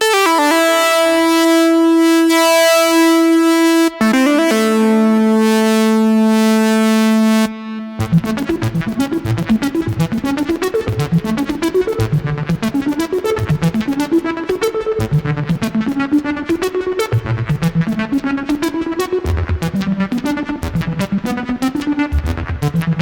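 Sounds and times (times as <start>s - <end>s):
synthesizer notes with pitch glide: 0.0s - 23.0s.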